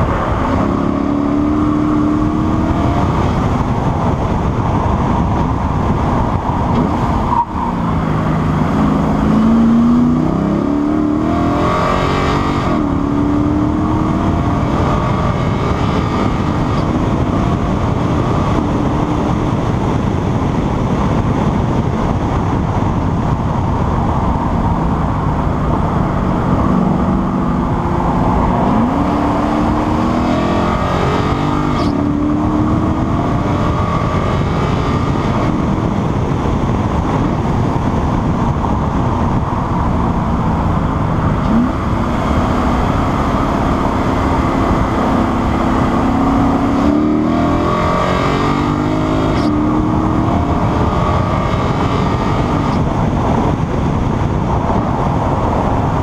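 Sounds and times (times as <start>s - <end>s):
car engine revving: 0.0s - 56.0s
heavy wind rush: 0.0s - 56.0s.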